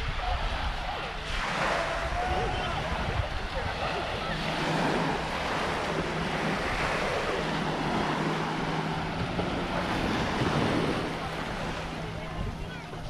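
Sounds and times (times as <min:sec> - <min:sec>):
surf washing onto beach: 0:00.0 - 0:13.0
wind buffeting microphone: 0:00.0 - 0:13.0
steady low hum: 0:00.1 - 0:13.0.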